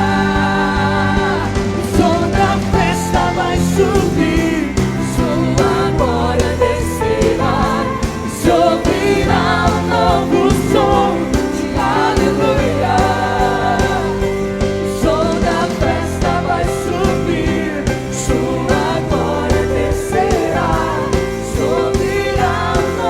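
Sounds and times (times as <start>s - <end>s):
full band with drums: 0.0s - 23.0s
group of voices singing: 0.0s - 23.0s.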